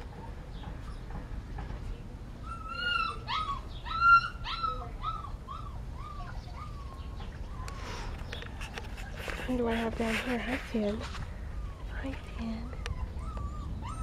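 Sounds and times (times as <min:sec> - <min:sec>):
puppy whining: 0:02.4 - 0:14.0.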